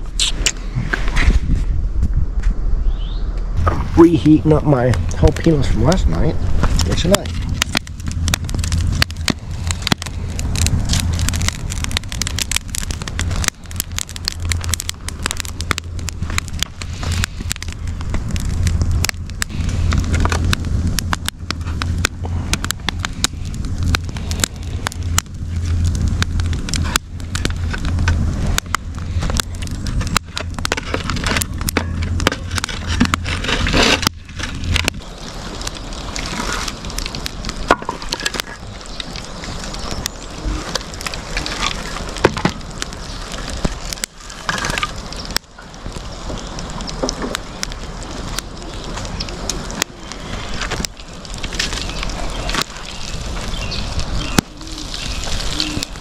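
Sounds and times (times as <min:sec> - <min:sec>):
campfire crackling and popping: 0:00.0 - 0:01.4, 0:03.3 - 0:56.0
low steady rumble: 0:00.0 - 0:56.0.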